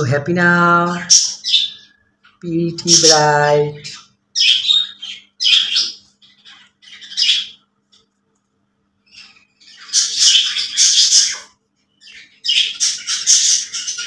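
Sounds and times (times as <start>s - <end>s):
budgerigar chirping and squawking: 1.0s - 7.7s, 9.0s - 14.0s.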